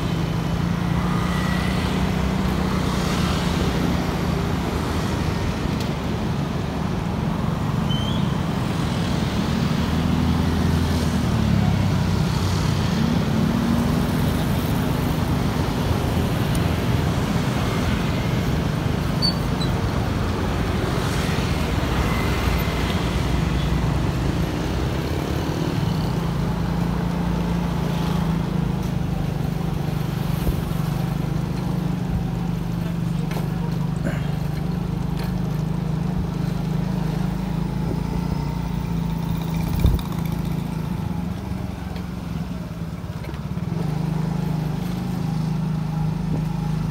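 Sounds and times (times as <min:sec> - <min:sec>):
traffic noise: 0:00.0 - 0:46.9.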